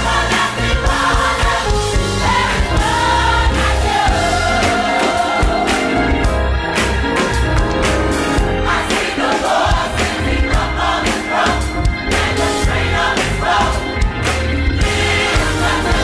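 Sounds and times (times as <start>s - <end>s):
bass and drum beat: 0.0s - 16.0s
gospel choir singing: 0.0s - 16.0s.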